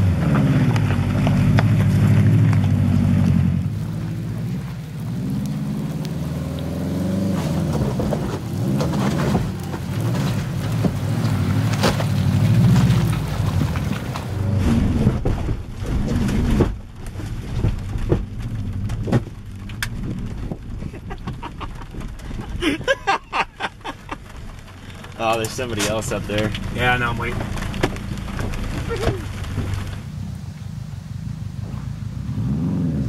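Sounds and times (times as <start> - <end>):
stones knocking under tyres: 0.0 - 30.2
car engine revving: 0.0 - 33.0.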